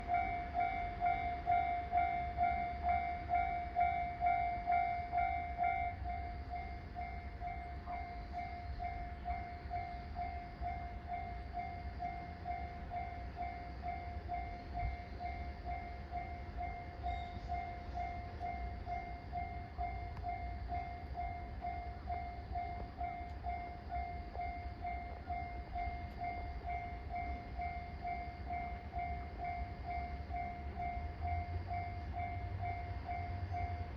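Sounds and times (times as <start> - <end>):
level-crossing warning bell ringing: 0.0 - 33.9.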